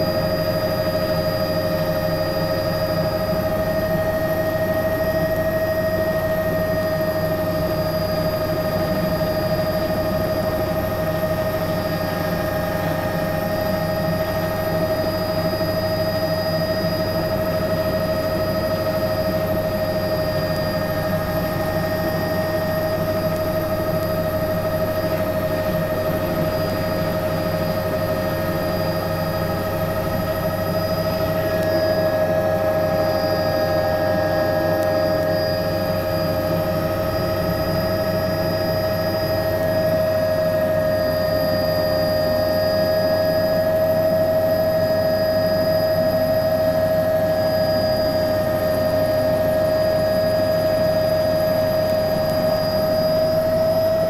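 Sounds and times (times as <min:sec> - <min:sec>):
helicopter rotor noise: 0:00.0 - 0:54.0
turbine whine: 0:00.0 - 0:54.0.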